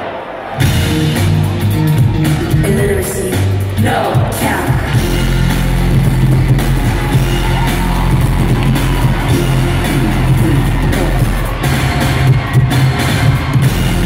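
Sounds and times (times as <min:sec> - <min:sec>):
loud live music with heavy bass: 0:00.0 - 0:14.0.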